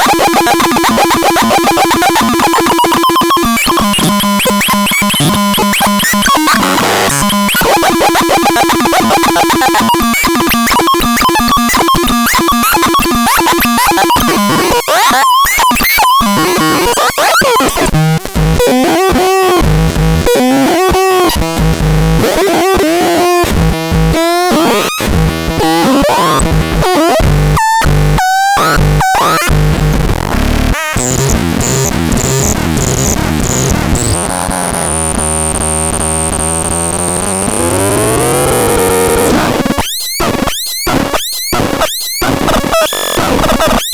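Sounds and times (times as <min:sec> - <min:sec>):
glitchy synthesizer tones: 0:00.0 - 0:43.9.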